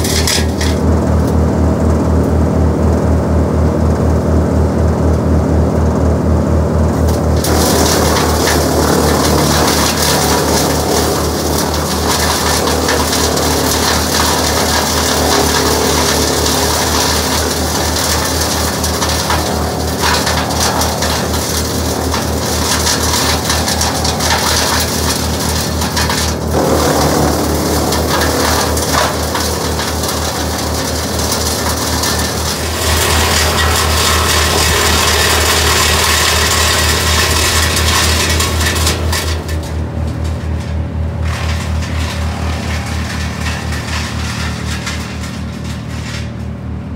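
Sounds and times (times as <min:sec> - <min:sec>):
wood chipper engine drone: 0:00.0 - 0:46.9.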